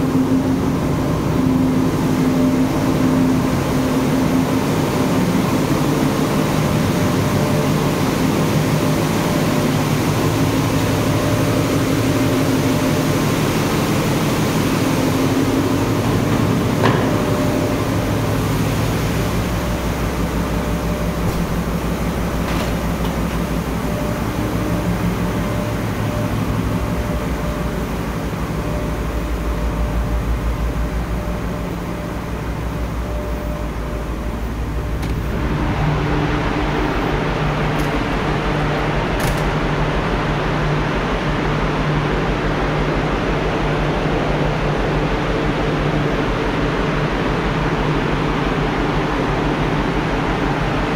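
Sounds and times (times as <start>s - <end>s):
engine room machinery drone: 0.0s - 50.9s.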